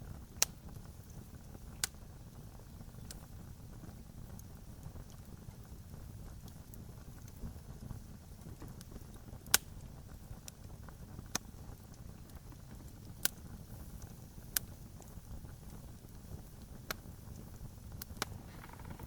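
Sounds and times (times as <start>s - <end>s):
campfire crackling: 0.0s - 19.0s
low rumble of fire: 0.0s - 19.0s.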